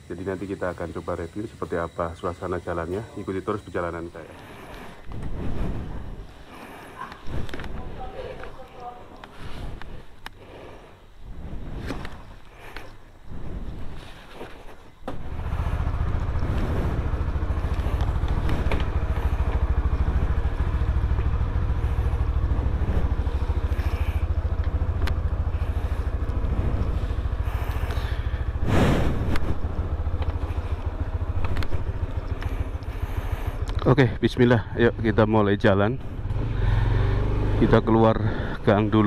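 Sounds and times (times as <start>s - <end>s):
motorcycle engine starting and running: 0.0s - 39.0s.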